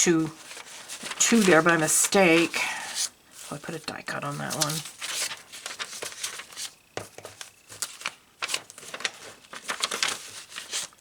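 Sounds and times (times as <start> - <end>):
paper pages turning and rustling: 0.1 - 3.7, 4.3 - 11.0.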